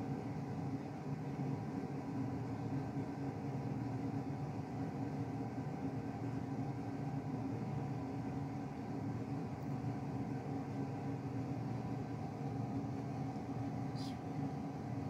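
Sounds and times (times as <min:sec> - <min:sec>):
machine hum: 0:01.8 - 0:15.0.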